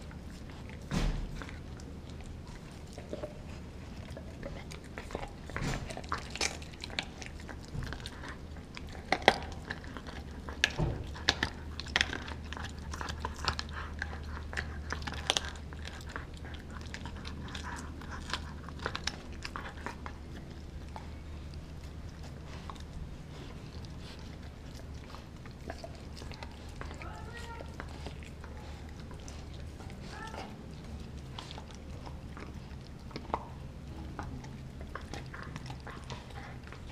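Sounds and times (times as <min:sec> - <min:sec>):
dog crunching frozen bone: 0:00.0 - 0:36.9.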